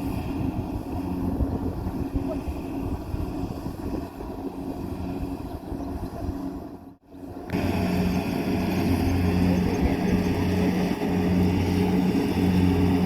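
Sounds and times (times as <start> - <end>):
combine harvester engine hum: 0.0 - 13.0.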